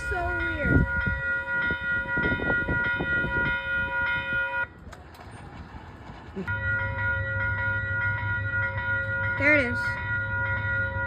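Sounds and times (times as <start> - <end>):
low train rumble: 0.0 - 11.0.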